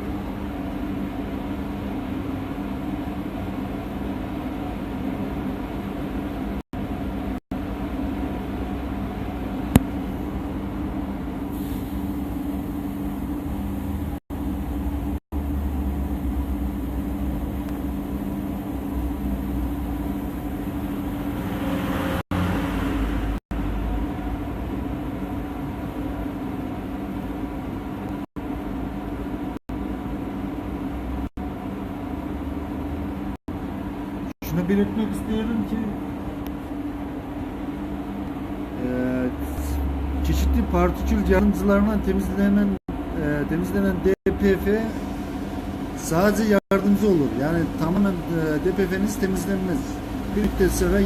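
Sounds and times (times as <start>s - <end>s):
water pump humming: 0.0s - 51.0s.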